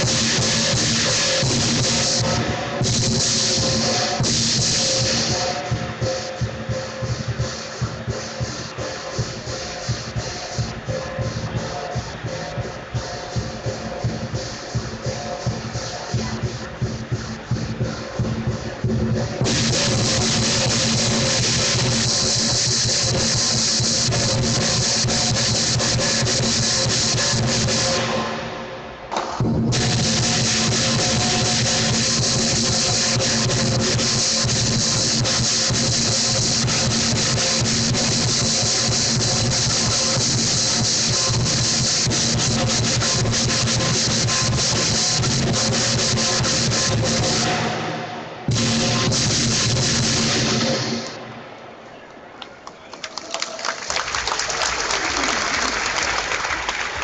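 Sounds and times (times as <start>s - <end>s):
drum beating fast: 0.0s - 51.2s, 53.9s - 57.0s
gong: 0.0s - 51.4s
crashing cymbals: 0.0s - 51.5s.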